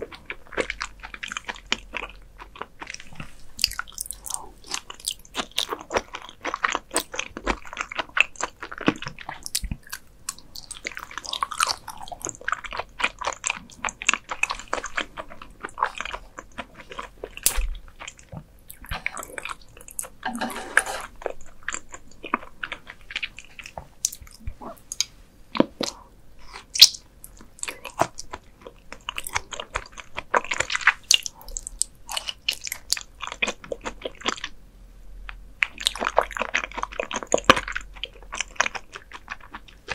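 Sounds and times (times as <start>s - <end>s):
close chewing: 0.0s - 34.5s, 35.6s - 39.9s.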